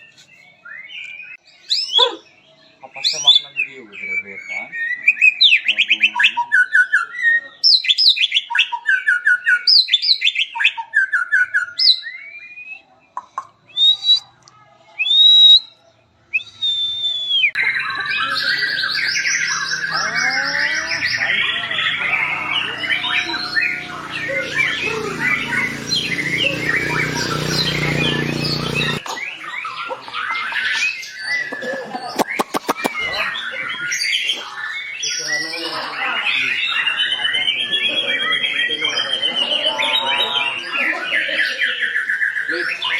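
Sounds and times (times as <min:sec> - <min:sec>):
bird singing whistled phrases: 0:00.0 - 0:13.0, 0:13.7 - 0:42.9.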